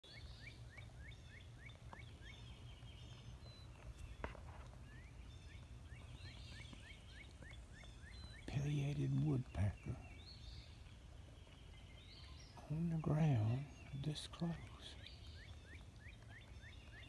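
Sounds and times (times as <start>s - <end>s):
faint birds chirping: 0.0s - 17.0s
bird calling upslurred notes: 0.1s - 17.0s.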